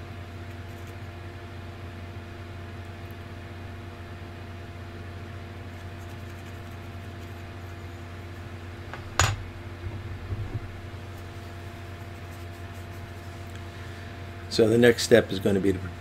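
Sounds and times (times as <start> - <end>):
low hum with fan noise: 0.0 - 16.0.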